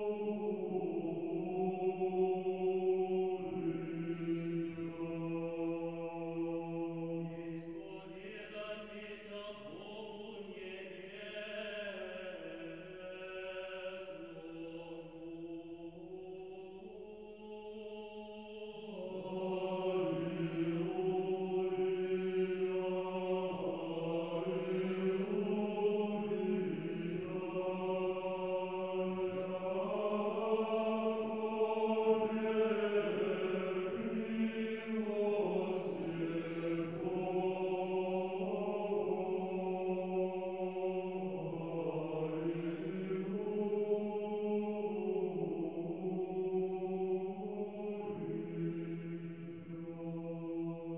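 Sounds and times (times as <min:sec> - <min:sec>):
choir singing church chant: 0:00.0 - 0:50.9.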